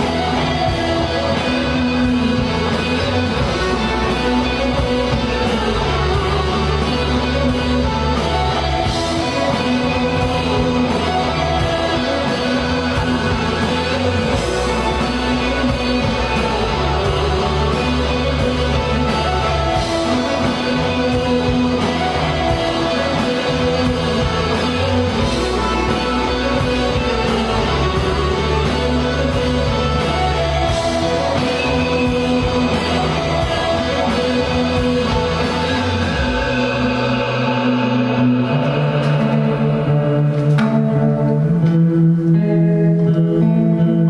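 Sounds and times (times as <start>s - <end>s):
bass notes: 0.0s - 44.0s
electric guitars: 0.0s - 44.0s.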